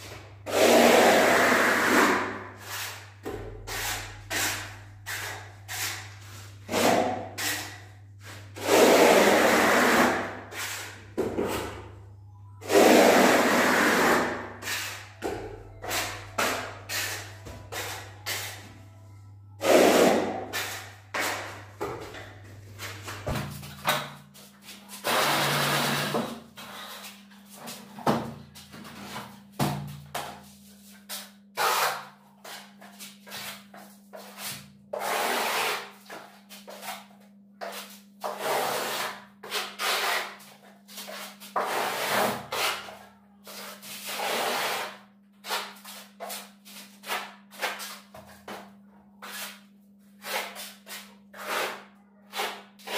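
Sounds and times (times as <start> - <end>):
plastering tool scraping a wall: 0.4 - 11.8, 12.6 - 18.7, 19.6 - 22.3, 22.9 - 52.9.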